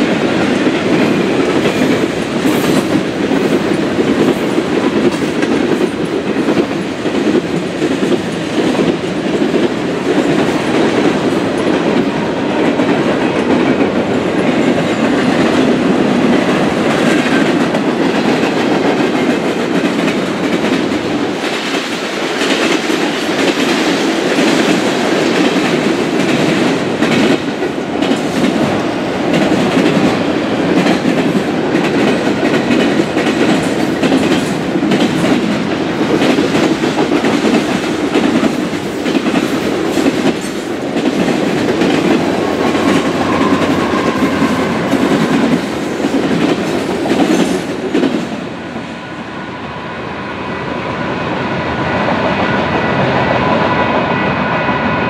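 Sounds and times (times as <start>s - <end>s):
steel wheels on rail: 0.0s - 55.0s.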